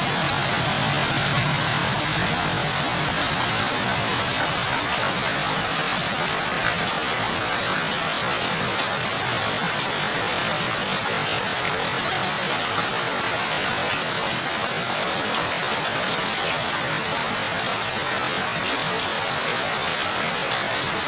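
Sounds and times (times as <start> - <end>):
heavy rain splashing into puddles: 0.0 - 21.0.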